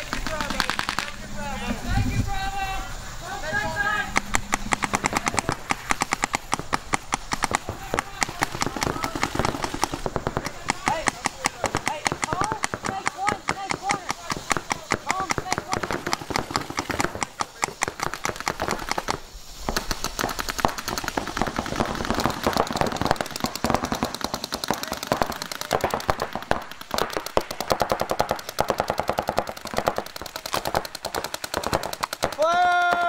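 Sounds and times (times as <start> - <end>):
paintball markers firing: 0.0 - 1.3, 3.5 - 33.0.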